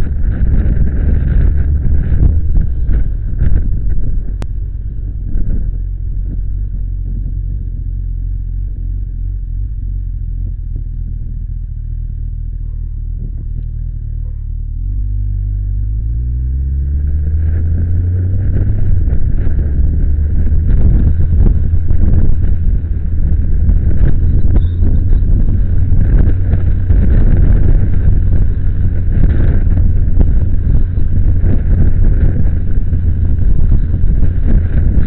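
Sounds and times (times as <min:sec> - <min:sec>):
motorcycle engine accelerating: 0:00.0 - 0:35.0
wind noise on microphone: 0:00.0 - 0:35.0.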